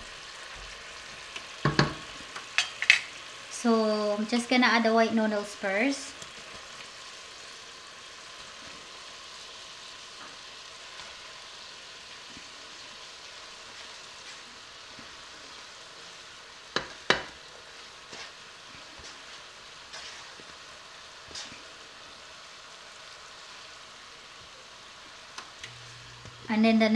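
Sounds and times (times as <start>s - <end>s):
meat sizzling in a pot: 0.0s - 26.9s.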